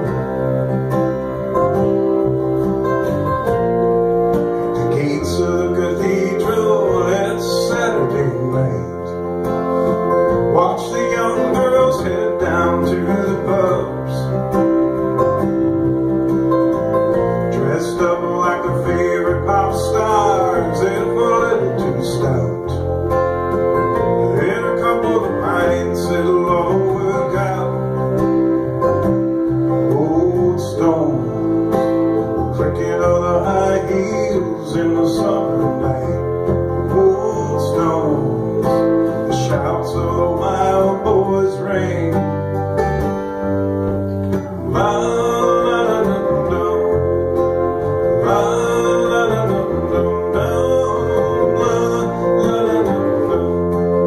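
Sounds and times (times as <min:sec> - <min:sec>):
acoustic guitar: 0:00.0 - 0:54.0
bass guitar: 0:00.0 - 0:54.0.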